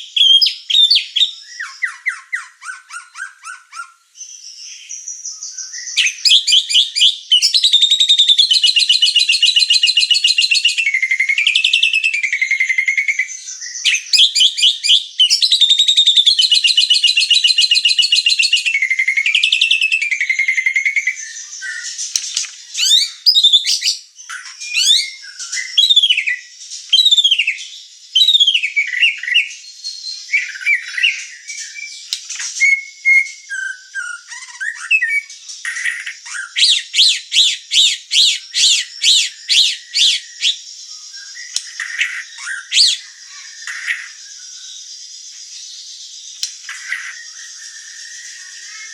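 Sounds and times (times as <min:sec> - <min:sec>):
bird whistling: 0:00.0 - 0:44.6
bird singing buzzy trills: 0:00.0 - 0:48.9.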